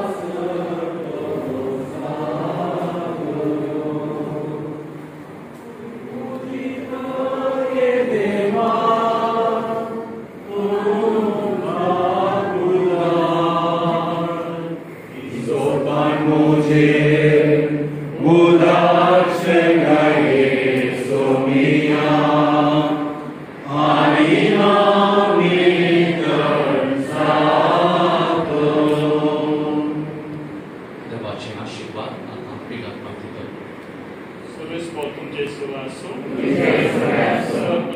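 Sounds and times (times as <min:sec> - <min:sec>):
congregation singing a hymn: 0:00.0 - 0:31.0, 0:35.7 - 0:37.9.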